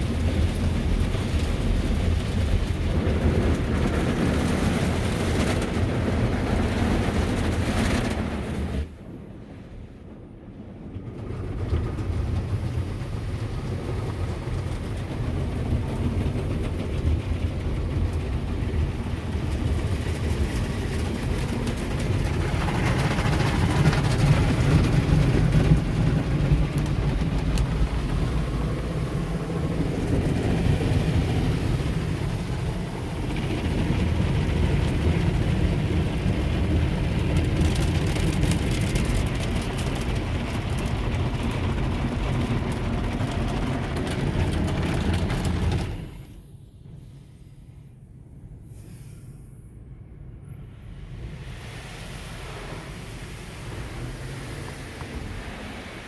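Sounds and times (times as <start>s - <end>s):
washing water noise: 0.0s - 9.4s, 10.7s - 47.0s, 50.9s - 56.0s
car wash machinery rumble: 0.0s - 56.0s.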